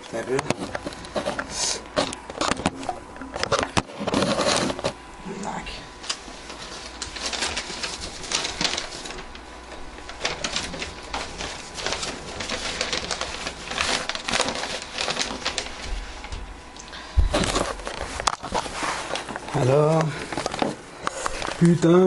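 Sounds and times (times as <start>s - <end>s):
paper rustling: 0.0s - 5.0s, 6.0s - 22.0s.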